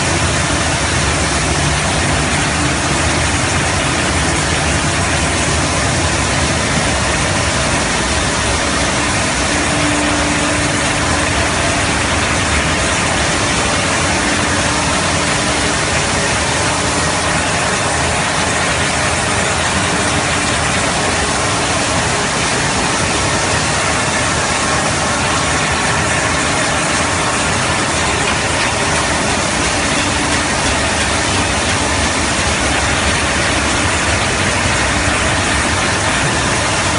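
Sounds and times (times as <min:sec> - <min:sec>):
faint machinery hum: 0:00.0 - 0:36.9
machinery rushing noise: 0:00.0 - 0:36.9.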